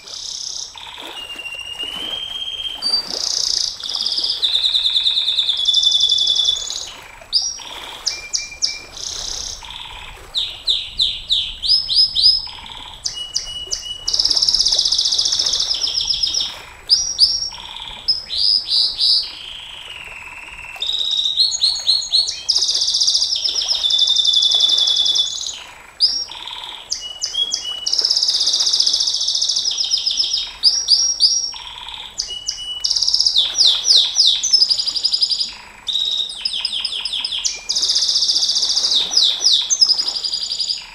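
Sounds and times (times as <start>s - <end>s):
canary singing: 0.2s - 40.9s.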